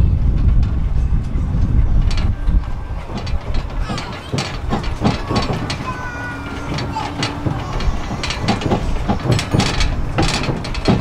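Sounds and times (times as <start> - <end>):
low rumble of moving train: 0.0 - 11.0
carriage rattling and knocking: 0.1 - 11.0.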